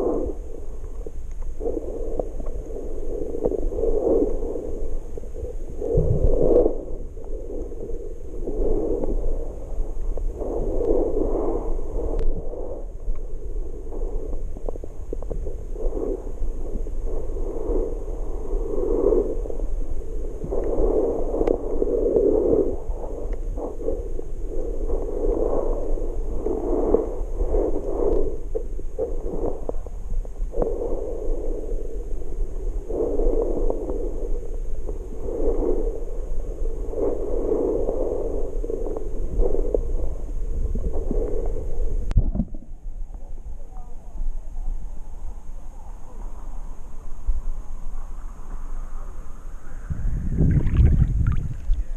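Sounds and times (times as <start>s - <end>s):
muffled underwater water noise: 0.0s - 51.9s.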